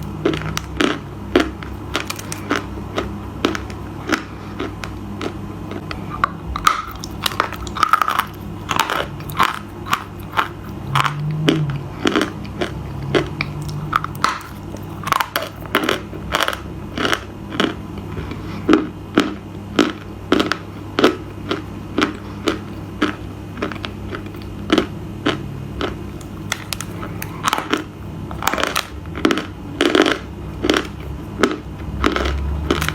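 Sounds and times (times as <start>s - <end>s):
crunchy chewing: 0.0s - 32.9s
steady low hum: 0.0s - 32.9s.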